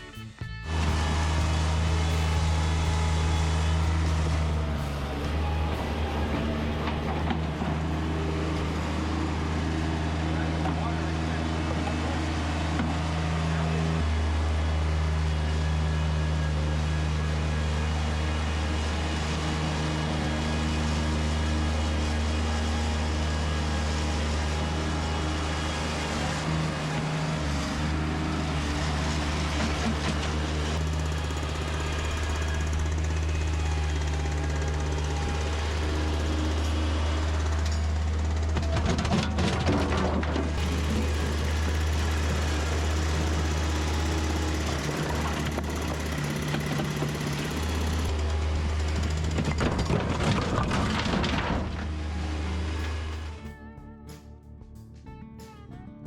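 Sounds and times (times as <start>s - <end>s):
heavy machinery engine droning: 0.0s - 54.7s.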